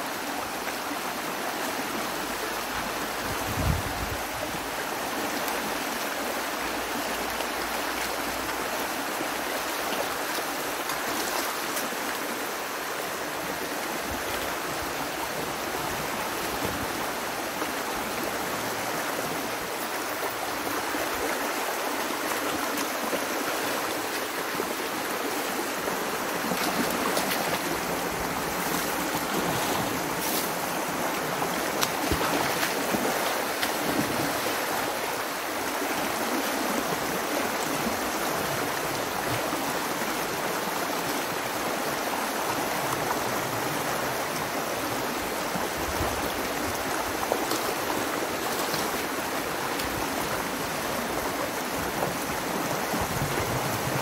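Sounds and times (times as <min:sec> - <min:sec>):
water rushing through a dam: 0:00.0 - 0:54.0.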